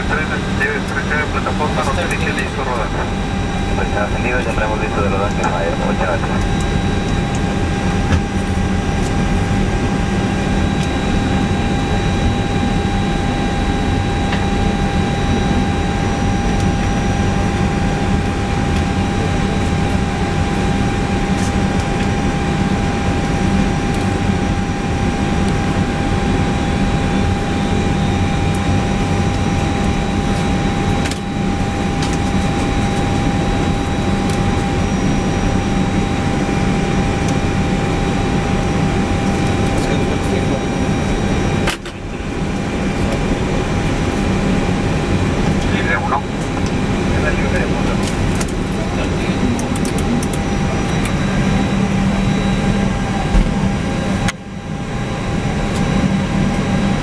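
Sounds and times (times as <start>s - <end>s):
low hum: 0.0s - 57.0s
steady high whines: 0.0s - 57.0s.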